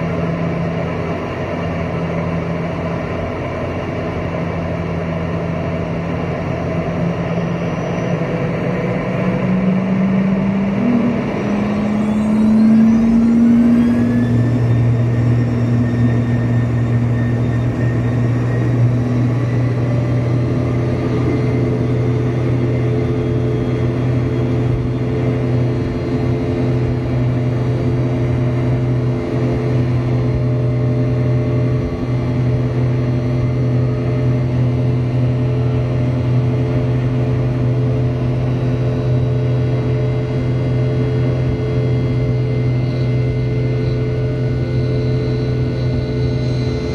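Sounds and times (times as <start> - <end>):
buzzsaw tones of fan blades: 0.0 - 46.9
turbofan engine spooling up: 0.0 - 46.9.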